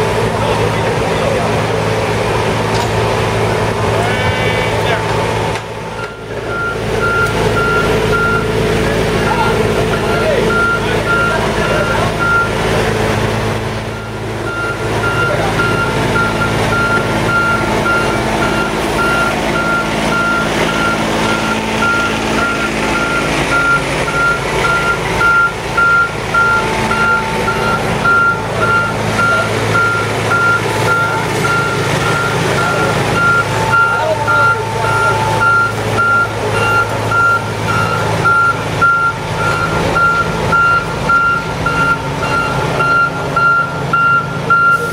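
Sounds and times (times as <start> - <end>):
machine engines running: 0.0 - 44.9
backup alarm beeping: 5.9 - 8.6, 9.8 - 12.6, 13.9 - 44.9.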